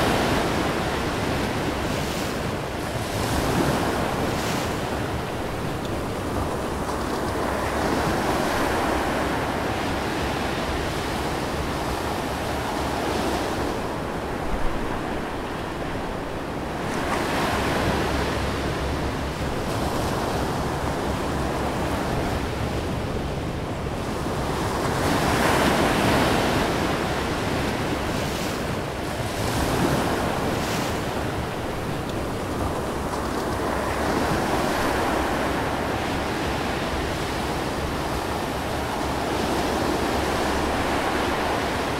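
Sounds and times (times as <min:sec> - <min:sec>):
wind and waves: 0:00.0 - 0:41.9.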